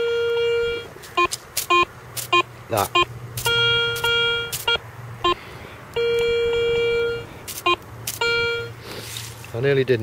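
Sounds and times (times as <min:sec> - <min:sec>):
metal detector tones: 0:00.0 - 0:05.4, 0:06.0 - 0:08.8.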